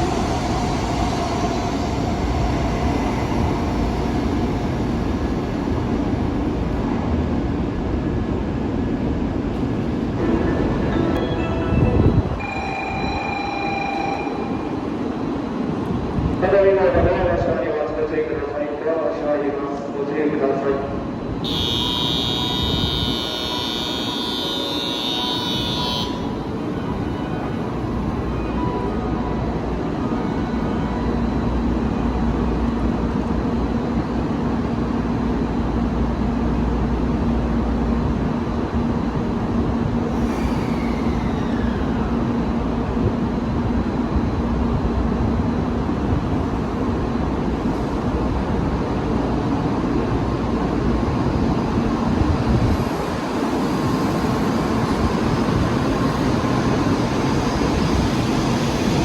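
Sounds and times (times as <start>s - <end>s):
train rumbling on tracks: 0.0s - 59.0s
train whine: 0.0s - 59.0s.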